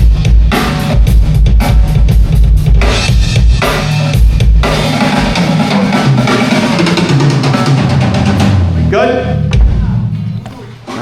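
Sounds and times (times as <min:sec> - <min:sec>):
drum kit playing a beat: 0:00.0 - 0:11.0.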